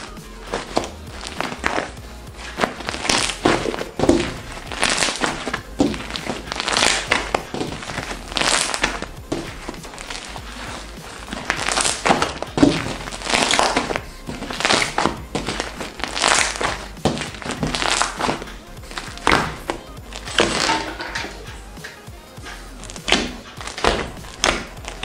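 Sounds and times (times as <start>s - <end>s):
background music: 0.0s - 25.0s
slime crackling and squishing: 0.0s - 25.0s.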